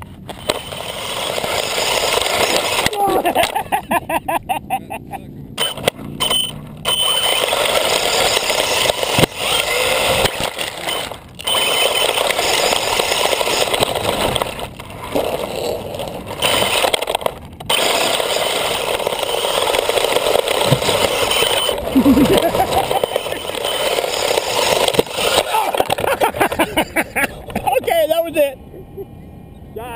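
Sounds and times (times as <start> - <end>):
rc car crunching through wood chips: 0.0 - 3.8, 5.6 - 27.0.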